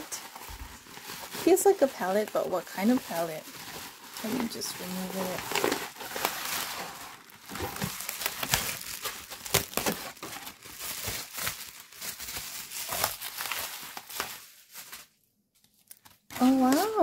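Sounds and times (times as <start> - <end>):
bubble wrap and paper crinkling: 0.0 - 17.0.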